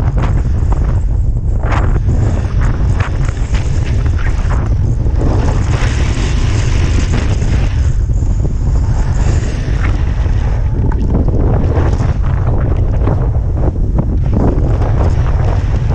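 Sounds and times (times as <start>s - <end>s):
snowboard scraping over snow: 0.0s - 15.9s
wind rumbling on microphone: 0.0s - 15.9s.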